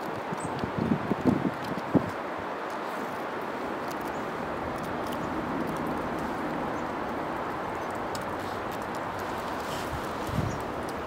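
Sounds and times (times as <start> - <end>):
faint light ticks: 0.0 - 11.0
outdoor background noise: 0.0 - 11.0.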